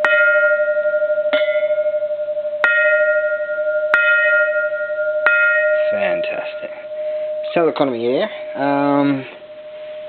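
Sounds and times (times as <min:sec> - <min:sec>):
temple bell ringing: 0:00.0 - 0:10.0.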